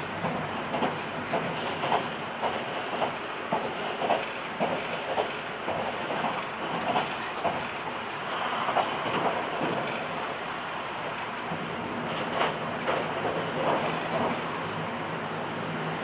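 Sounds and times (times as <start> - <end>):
train rolling on track: 0.0 - 16.0
wheels clicking over rail joints: 0.2 - 16.0.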